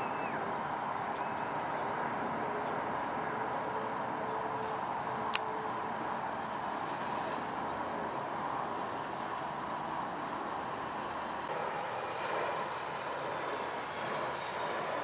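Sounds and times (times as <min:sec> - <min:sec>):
jet airliner flying overhead: 0:00.0 - 0:15.0.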